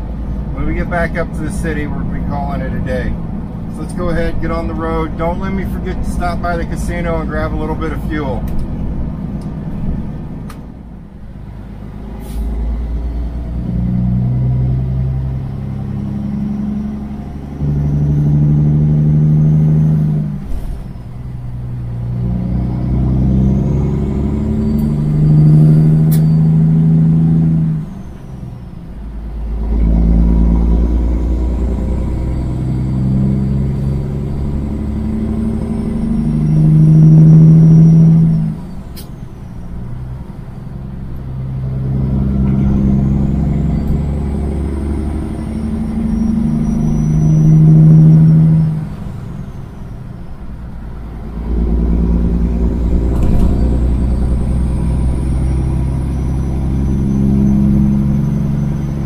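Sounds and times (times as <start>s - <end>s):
diesel truck engine accelerating: 0.0s - 59.0s.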